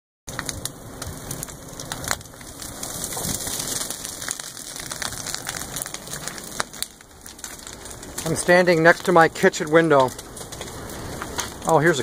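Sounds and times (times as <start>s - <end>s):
sharp pops and snaps: 0.3s - 11.7s
grass fire crackling: 0.3s - 12.0s.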